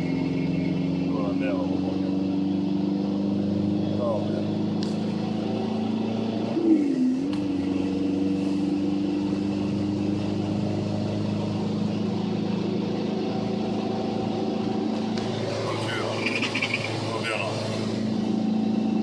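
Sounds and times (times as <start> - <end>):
pickup engine running: 0.0 - 19.0.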